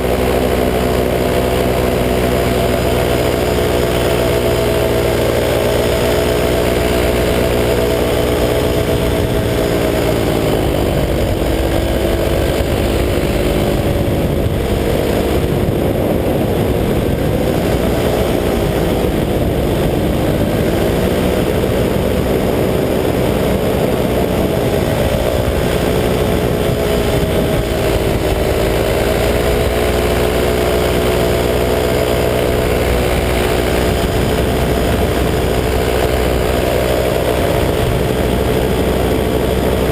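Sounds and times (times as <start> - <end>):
paramotor engine running: 0.0 - 39.9.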